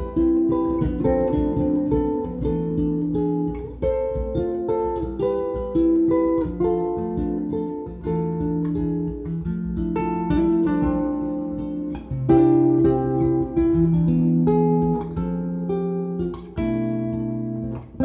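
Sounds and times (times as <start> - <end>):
guitar melody over chords: 0.0 - 18.0.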